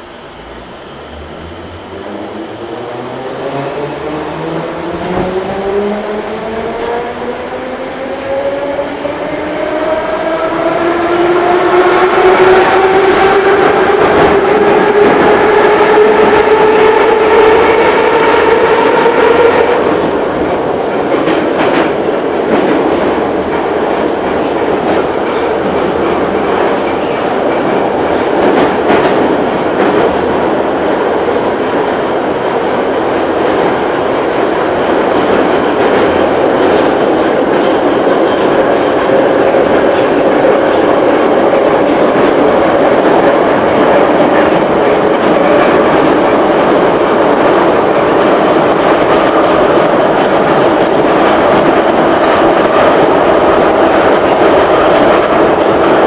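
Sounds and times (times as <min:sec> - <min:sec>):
train wheel rumble: 0:00.0 - 0:56.0.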